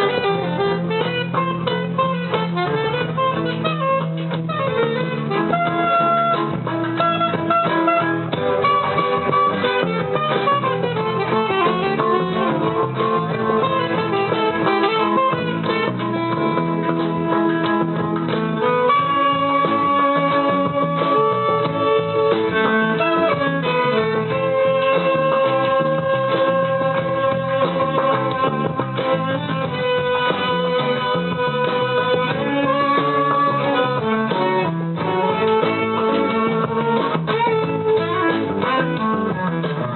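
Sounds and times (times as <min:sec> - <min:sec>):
band playing: 0:00.0 - 0:39.9
guitar melody: 0:00.0 - 0:39.9.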